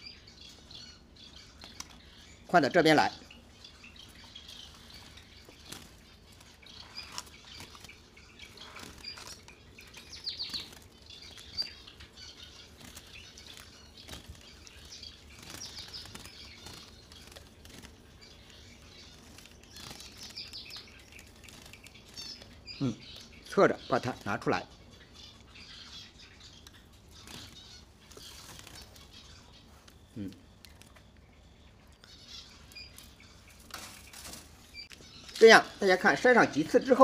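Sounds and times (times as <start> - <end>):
small bird chirping softly: 0.0 - 37.0.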